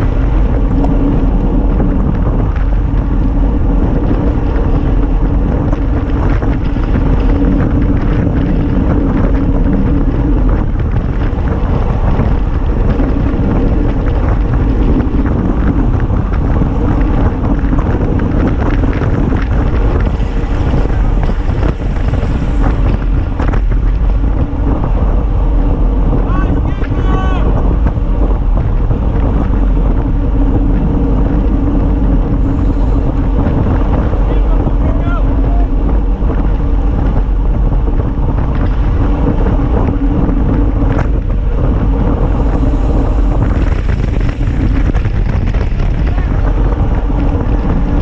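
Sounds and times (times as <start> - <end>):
bike clicks and rattles: 0.0 - 48.0
tyres rumbling on asphalt: 0.0 - 48.0
wind buffeting microphone: 0.0 - 48.0.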